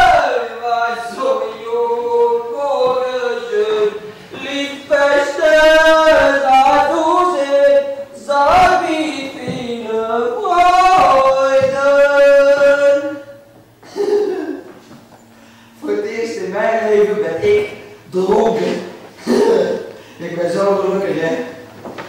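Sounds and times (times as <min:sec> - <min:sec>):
man singing unaccompanied: 0:00.0 - 0:13.5, 0:15.8 - 0:21.7.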